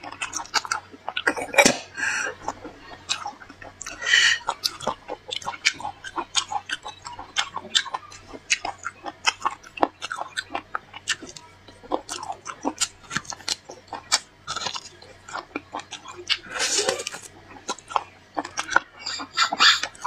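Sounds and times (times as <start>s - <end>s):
person chewing and sucking bone: 0.0s - 20.0s.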